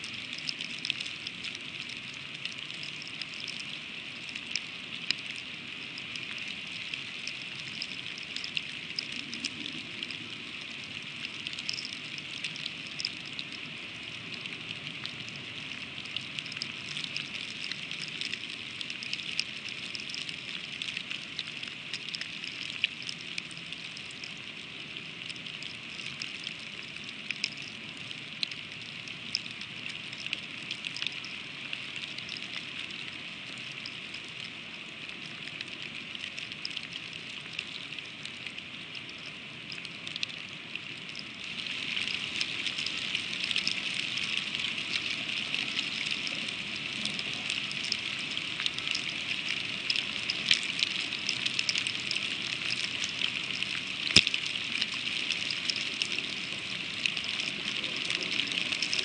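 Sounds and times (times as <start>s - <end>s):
freezing rain pattering on ice: 0.0s - 59.0s.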